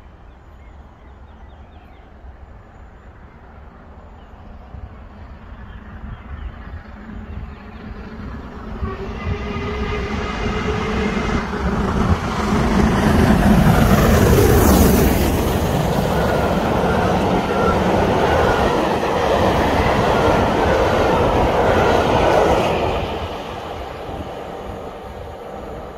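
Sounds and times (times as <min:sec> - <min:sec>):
steam locomotive passing: 0:02.1 - 0:25.9.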